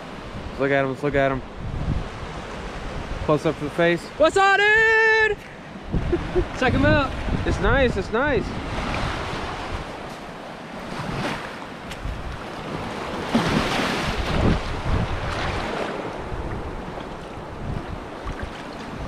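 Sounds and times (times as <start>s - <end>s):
surf washing up beach: 0.0s - 19.0s
wind buffeting microphone: 1.2s - 3.6s, 5.5s - 19.0s.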